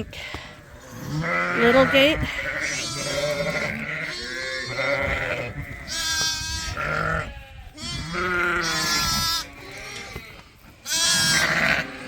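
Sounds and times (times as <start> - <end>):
sheep and lambs bleating: 0.0 - 12.0.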